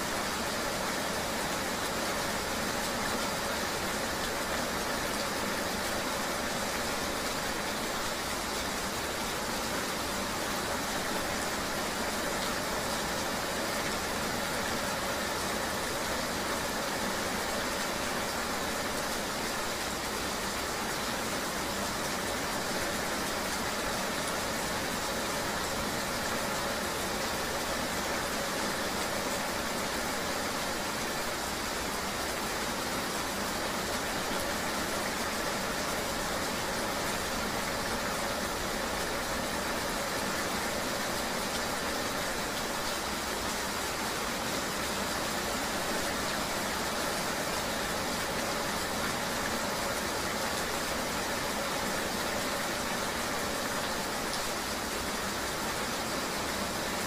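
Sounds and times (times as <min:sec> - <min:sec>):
rain and road hiss: 0:00.0 - 0:57.0.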